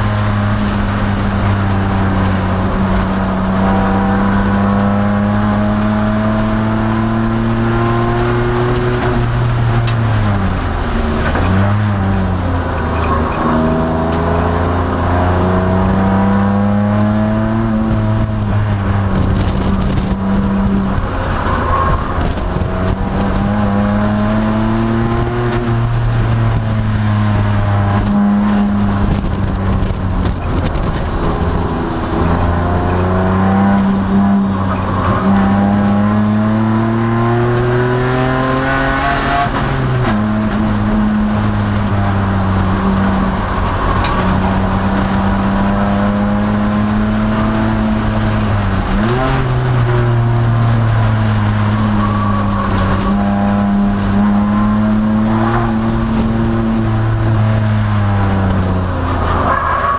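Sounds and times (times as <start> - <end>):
car engine revving high: 0.0 - 59.9.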